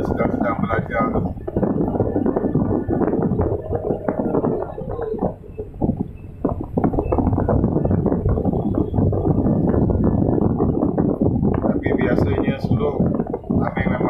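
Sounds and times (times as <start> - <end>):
excavator engine rumble: 0.0 - 14.0.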